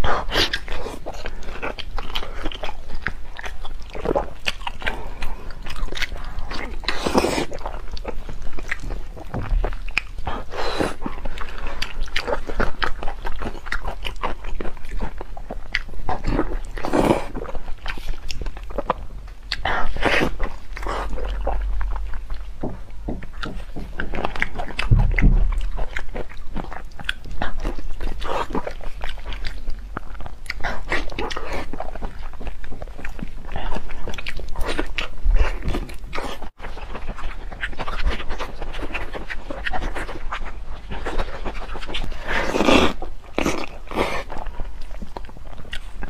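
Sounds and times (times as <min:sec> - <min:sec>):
close-miked chewing and smacking: 0:00.0 - 0:46.0.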